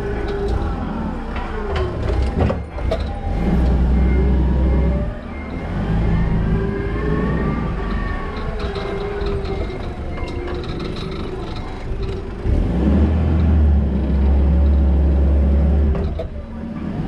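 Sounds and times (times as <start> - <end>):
forklift engine rumble: 0.0 - 17.0
forklift whining: 0.0 - 17.0.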